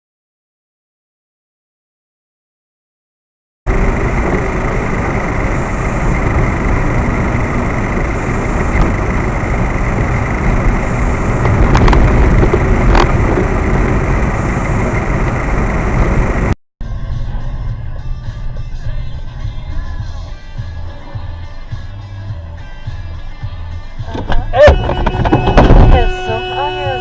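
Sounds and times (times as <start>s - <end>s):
vehicle engine and road noise: 3.7s - 27.0s.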